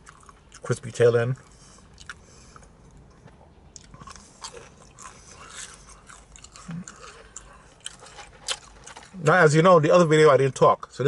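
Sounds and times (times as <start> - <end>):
person chewing crispy food: 0.0 - 9.4.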